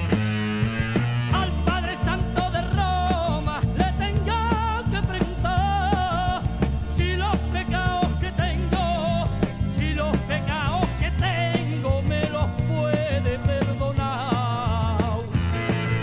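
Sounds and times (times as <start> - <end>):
bass line: 0.0 - 16.0
drum kit beat: 0.0 - 16.0
person singing with vibrato: 1.3 - 16.0.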